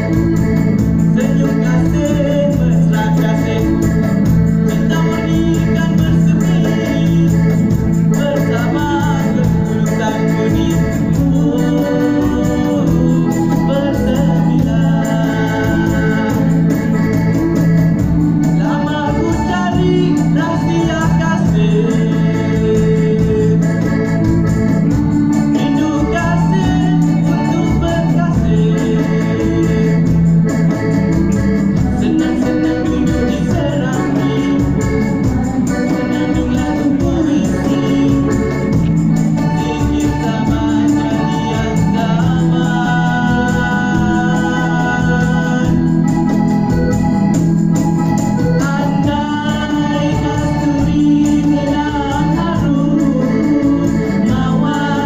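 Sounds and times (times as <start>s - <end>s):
keyboard organ chords: 0.0s - 55.0s
voices singing: 0.0s - 55.0s.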